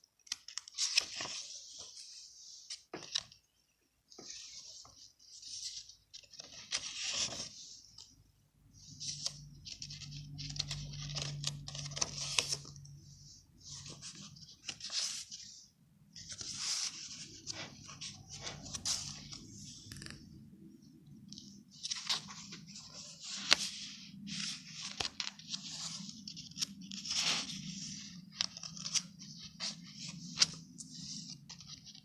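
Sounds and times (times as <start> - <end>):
paper rustling and scraping: 0.3 - 3.4, 4.2 - 8.2, 8.8 - 20.3, 21.3 - 32.0.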